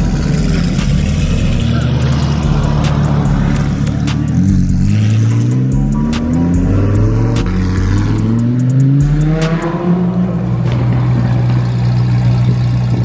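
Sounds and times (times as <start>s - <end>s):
car engine revving up: 0.0s - 13.0s
car engines running loud: 0.0s - 13.0s.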